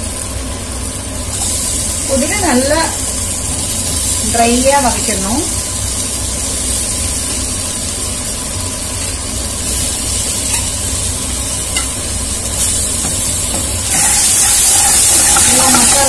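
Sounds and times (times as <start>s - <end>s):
potatoes sizzling in oil: 0.0s - 16.0s.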